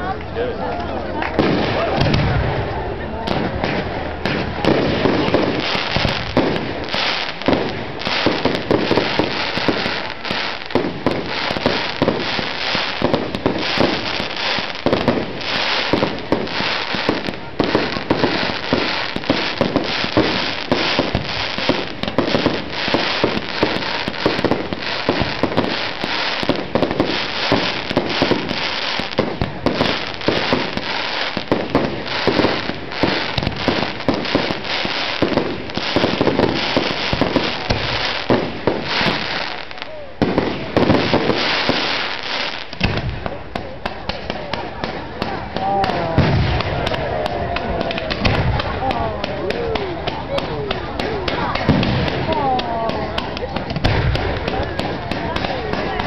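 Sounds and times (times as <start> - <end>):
fireworks bangs: 1.2 - 56.0.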